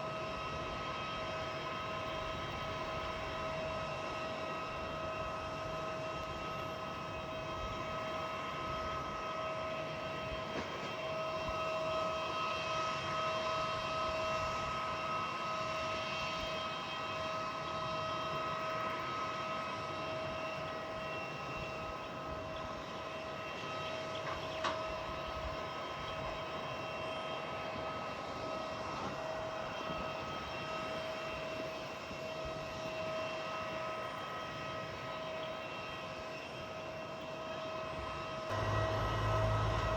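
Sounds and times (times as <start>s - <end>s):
aircraft engines whining: 0.0s - 39.9s.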